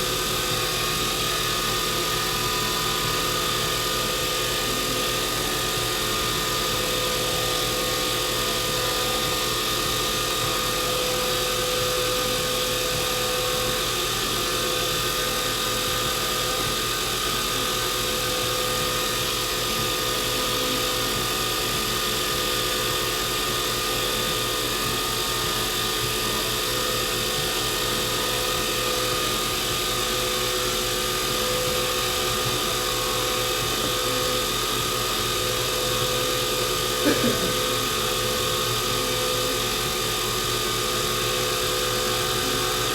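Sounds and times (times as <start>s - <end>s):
wood lathe motor hum and whine: 0.0s - 42.9s.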